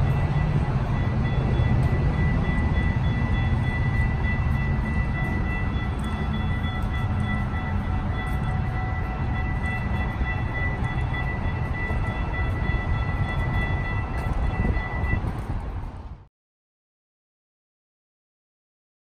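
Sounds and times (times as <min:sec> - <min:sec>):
train running gear rumble: 0:00.0 - 0:16.3.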